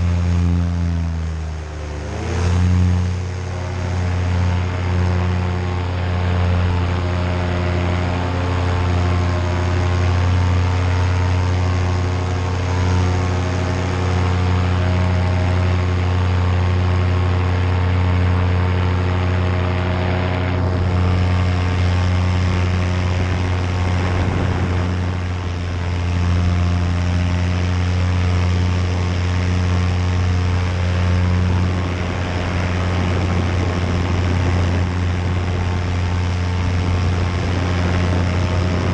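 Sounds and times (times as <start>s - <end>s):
paramotor engine drone: 0.0s - 38.9s.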